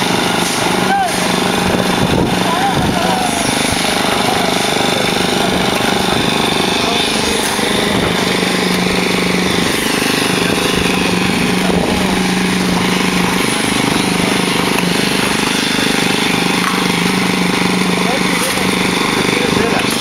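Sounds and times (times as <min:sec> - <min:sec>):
concrete vibrator motor humming: 0:00.0 - 0:20.0.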